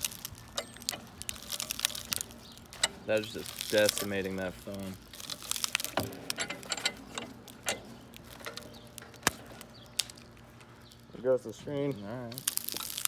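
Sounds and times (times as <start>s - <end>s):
phone glass cracking: 0.0s - 11.0s, 12.3s - 13.0s.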